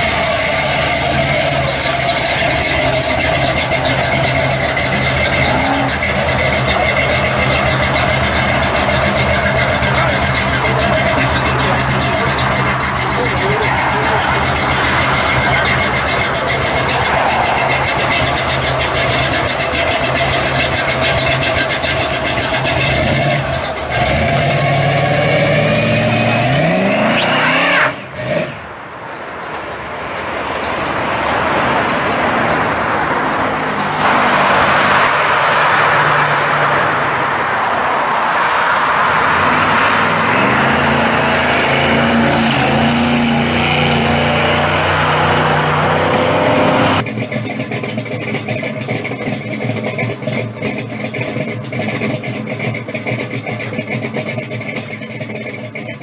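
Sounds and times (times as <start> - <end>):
passing traffic: 0.0 - 56.0
truck engine revving: 0.0 - 56.0.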